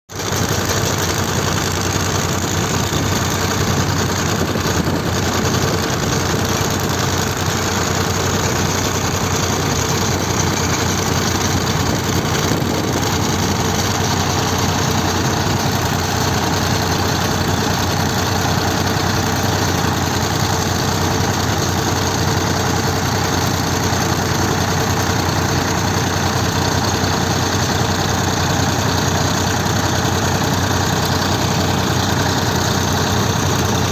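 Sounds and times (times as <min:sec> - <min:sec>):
heavy machine engine running: 0:00.1 - 0:33.9.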